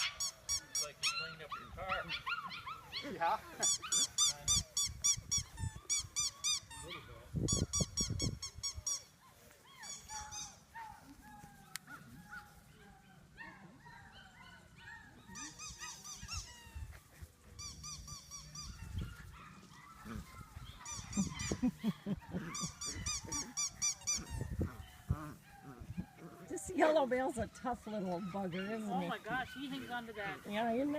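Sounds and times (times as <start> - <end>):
puppies squealing and whining: 0.0 - 10.7, 13.5 - 30.8.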